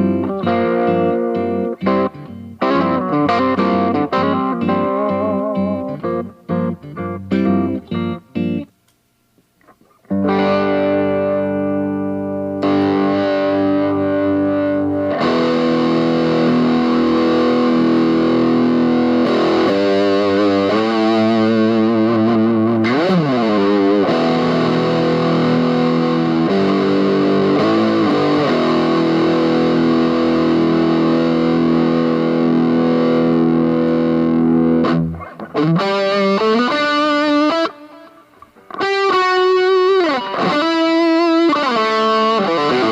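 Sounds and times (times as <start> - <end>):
distorted electric guitar: 0.0 - 42.9.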